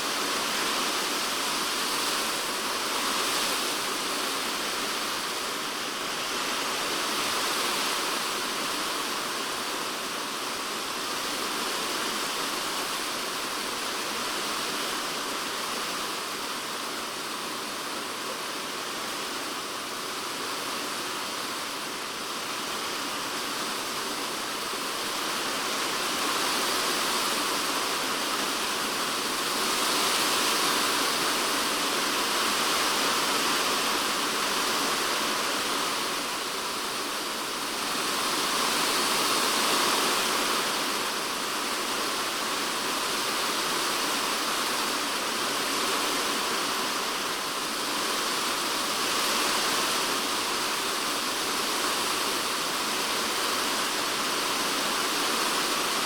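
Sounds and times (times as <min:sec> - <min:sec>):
heavy rain on a plastic roof: 0:00.0 - 0:56.0.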